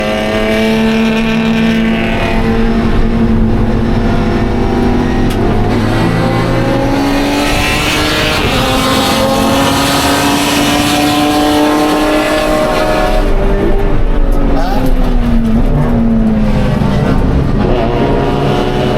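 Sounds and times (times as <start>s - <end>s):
race car engine revving: 0.0s - 18.9s.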